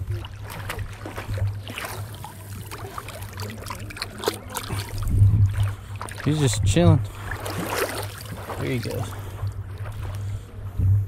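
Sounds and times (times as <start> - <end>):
wind rumbling on microphone: 0.0 - 3.0, 3.8 - 11.0
shallow seawater sloshing: 0.0 - 11.0.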